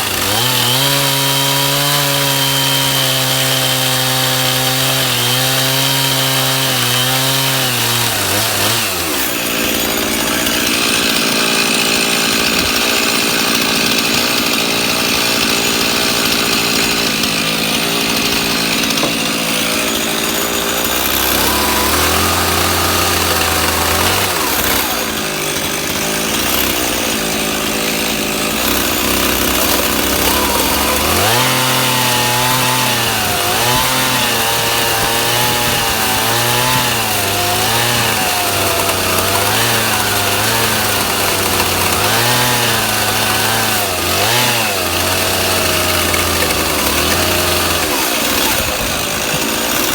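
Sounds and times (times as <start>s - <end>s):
power tool cutting wood: 0.0s - 49.9s.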